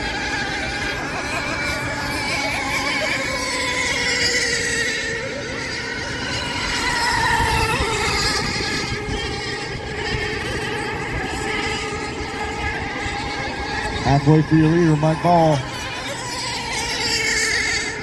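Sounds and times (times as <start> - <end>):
racing boat engines whining: 0.0 - 18.0.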